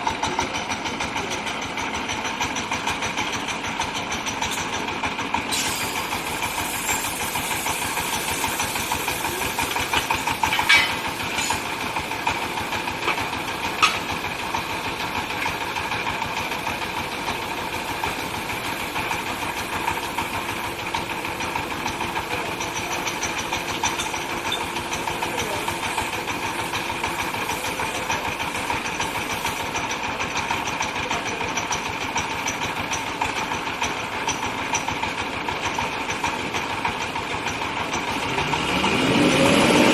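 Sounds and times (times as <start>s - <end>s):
drilling rig rattling din: 0.1s - 38.7s.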